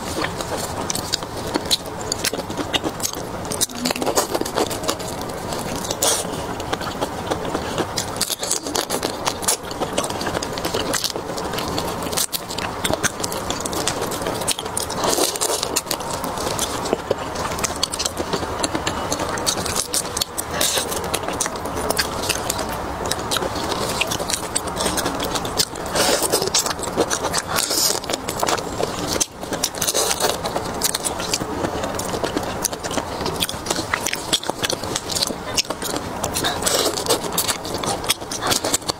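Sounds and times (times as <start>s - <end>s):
wet sucking and chewing: 0.0s - 38.9s.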